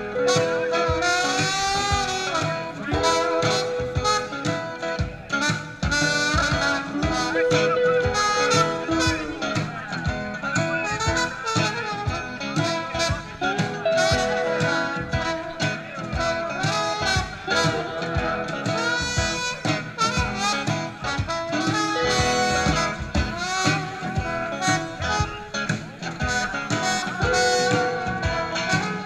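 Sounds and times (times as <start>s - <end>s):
acoustic blues band playing: 0.0s - 29.0s.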